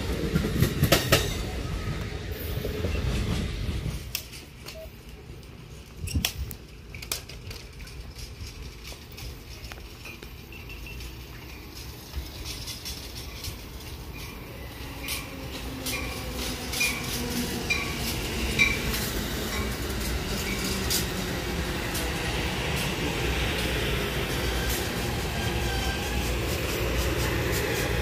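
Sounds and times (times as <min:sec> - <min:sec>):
passenger train rumbling past: 0:00.0 - 0:28.0
wheels clicking over rail joints: 0:00.0 - 0:28.0.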